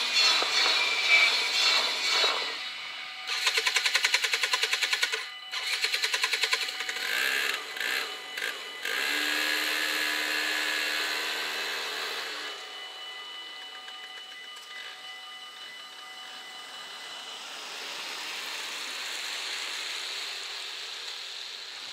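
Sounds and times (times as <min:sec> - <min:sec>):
level crossing bells ringing: 0:00.0 - 0:20.7
barrier motor humming: 0:00.0 - 0:21.9.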